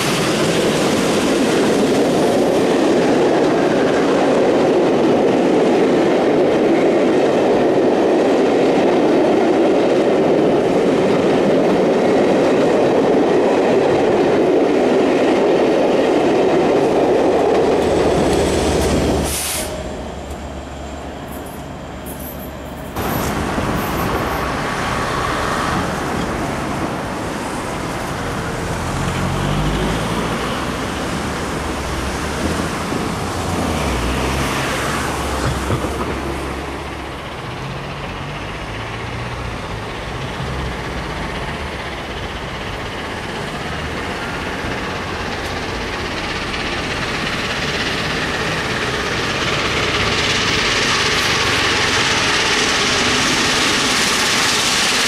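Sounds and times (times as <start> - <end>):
steam locomotive approaching: 0.0 - 55.0.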